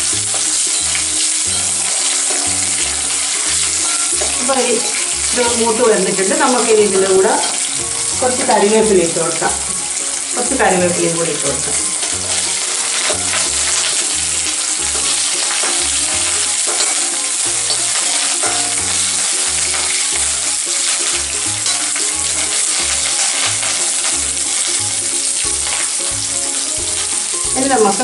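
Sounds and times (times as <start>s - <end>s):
background music with bass line: 0.0s - 28.0s
spices sizzling in hot oil: 0.0s - 28.0s.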